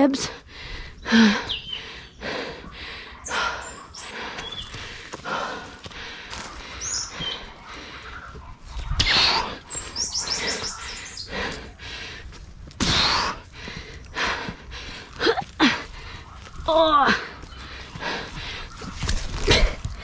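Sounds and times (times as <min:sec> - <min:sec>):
small birds chirping: 0:00.0 - 0:12.5, 0:13.3 - 0:20.0.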